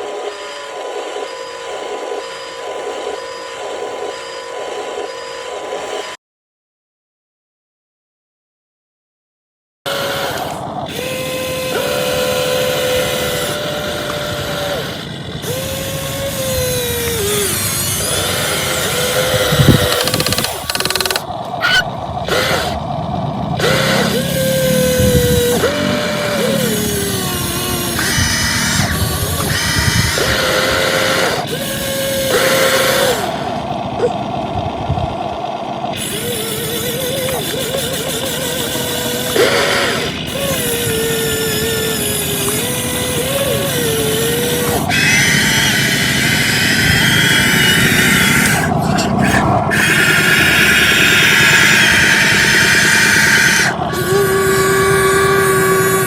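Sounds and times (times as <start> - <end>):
electric motors whining: 0.0 - 6.2, 9.9 - 56.0.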